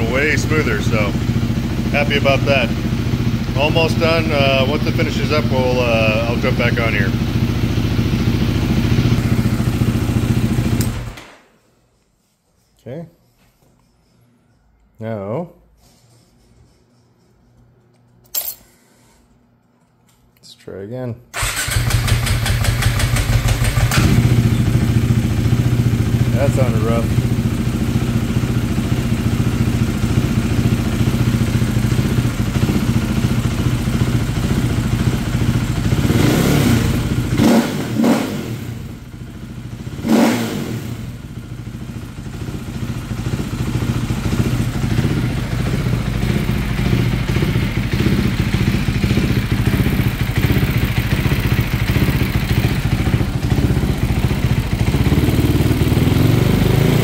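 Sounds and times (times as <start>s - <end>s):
motorcycle engine idling: 0.0s - 11.1s, 21.4s - 37.9s, 38.5s - 57.0s.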